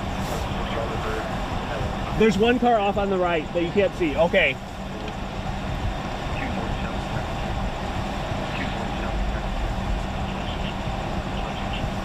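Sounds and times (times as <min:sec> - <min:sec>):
vehicle cabin rumble and hum: 0:00.0 - 0:12.0.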